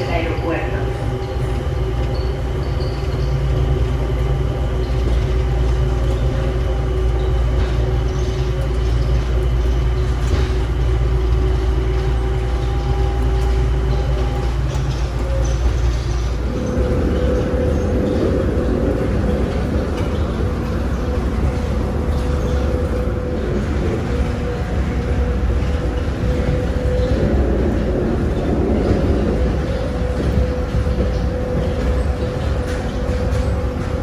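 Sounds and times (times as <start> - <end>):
steady whining tones: 0.0 - 34.0.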